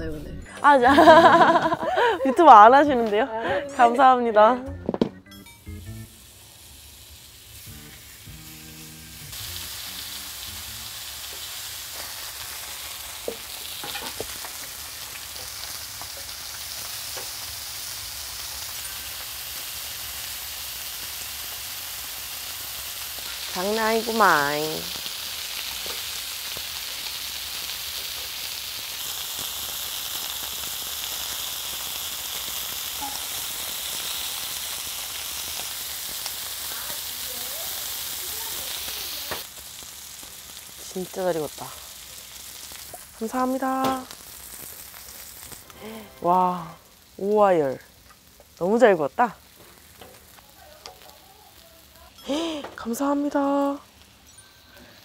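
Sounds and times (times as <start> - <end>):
meat sizzling on griddle: 0.9 - 3.6, 5.4 - 55.0.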